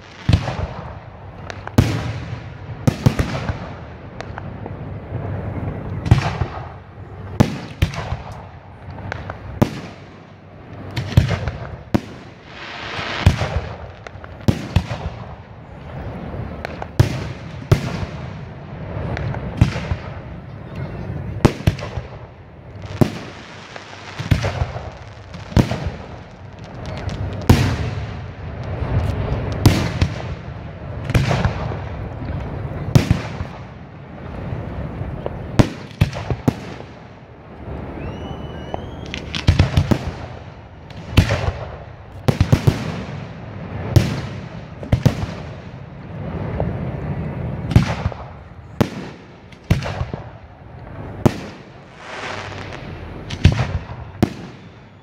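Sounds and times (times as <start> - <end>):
fireworks booming: 0.0 - 55.0.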